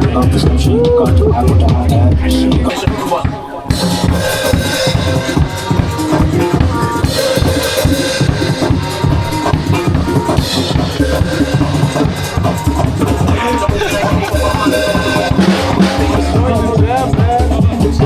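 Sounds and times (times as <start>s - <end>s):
music with driving drum beat: 0.0s - 18.0s.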